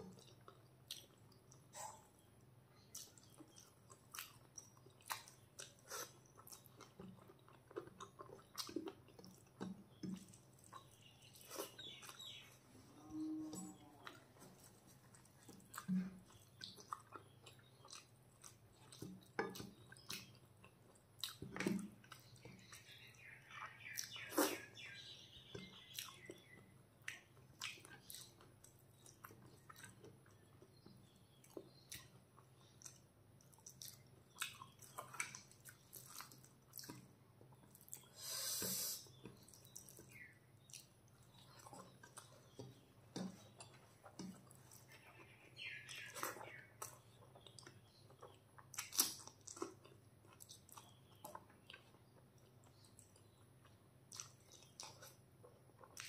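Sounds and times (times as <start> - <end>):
wet chewing and lip smacks: 0.0 - 2.2, 2.8 - 12.6, 13.7 - 38.2, 39.0 - 56.0.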